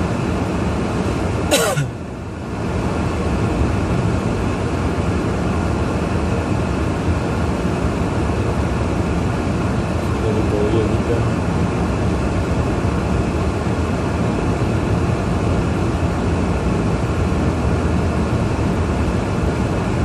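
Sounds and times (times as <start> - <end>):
car cabin road and engine noise: 0.0 - 20.0.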